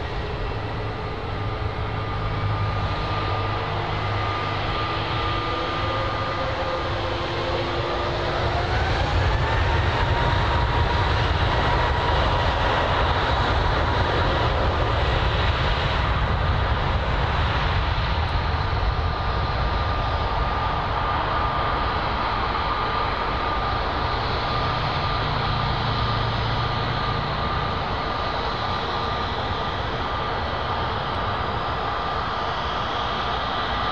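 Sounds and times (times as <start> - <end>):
jet engines spooling up: 0.0 - 33.9.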